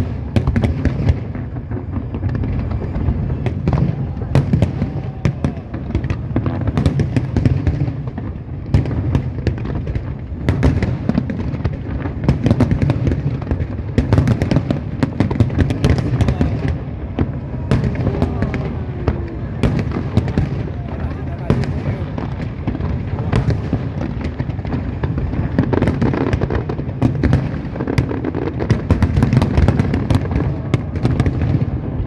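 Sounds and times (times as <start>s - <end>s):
fireworks bangs and crackles: 0.0s - 32.0s
low rumble of explosions: 0.0s - 32.0s.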